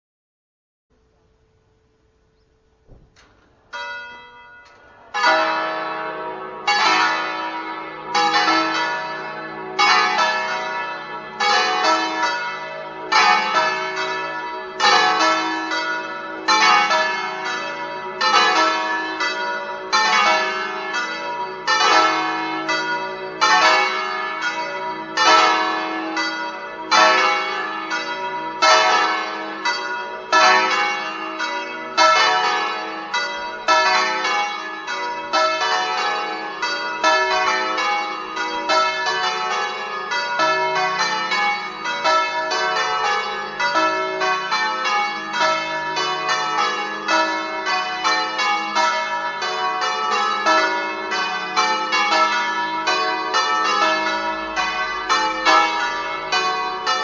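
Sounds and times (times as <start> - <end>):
church bells ringing: 2.7 - 57.0.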